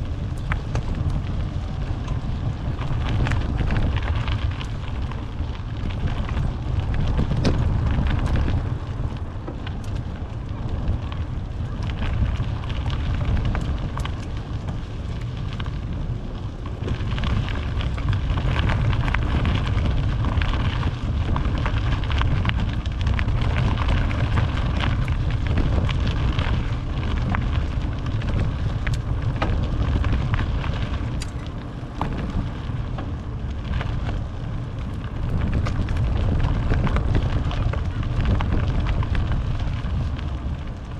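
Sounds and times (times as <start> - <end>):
tyres crackling on path: 0.0 - 40.9
wind buffeting microphone: 0.0 - 40.9.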